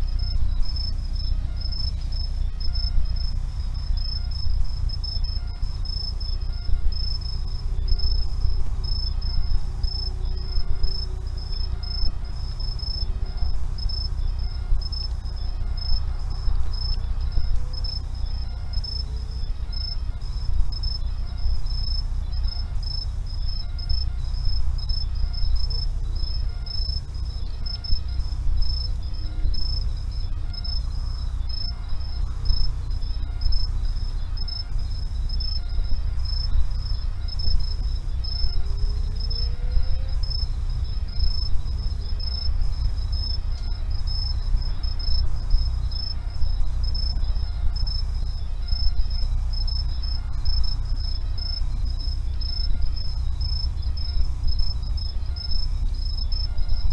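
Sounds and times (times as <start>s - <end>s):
insect chirping: 0.0s - 56.9s
low steady rumble: 0.0s - 56.9s.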